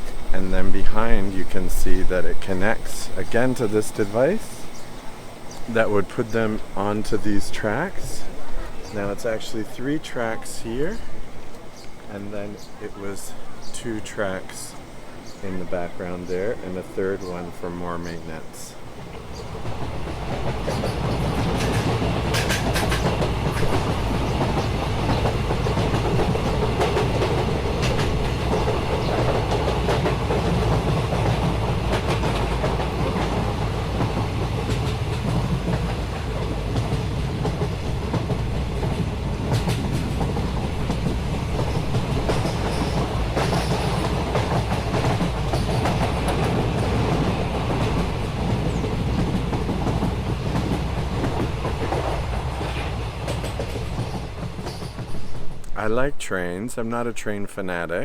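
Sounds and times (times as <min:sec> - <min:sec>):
wheels clicking over rail joints: 0:00.0 - 0:55.8
train rumbling past: 0:00.0 - 0:58.0.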